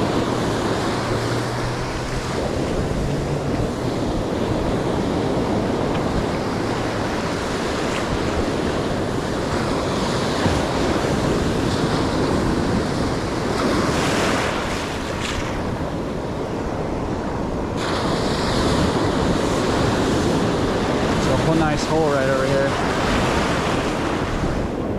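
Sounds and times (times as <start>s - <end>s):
surf breaking on sand: 0.0s - 24.9s
wind buffeting microphone: 0.0s - 24.9s.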